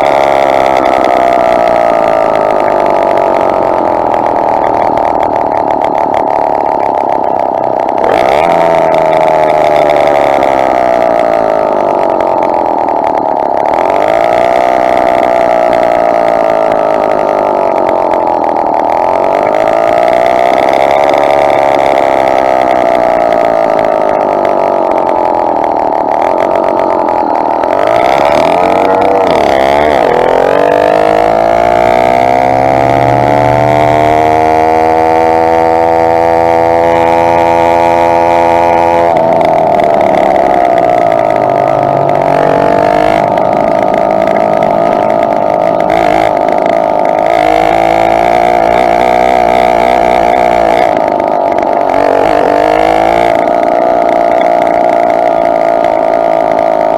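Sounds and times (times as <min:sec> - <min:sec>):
two-stroke bicycle engine revving: 0:00.0 - 0:56.9.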